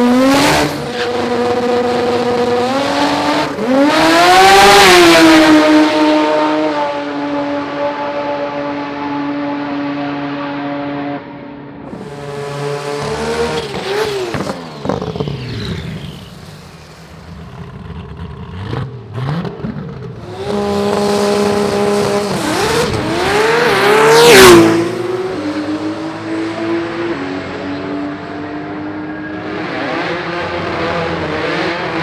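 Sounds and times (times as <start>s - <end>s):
drag racing engines revving: 0.0s - 32.0s.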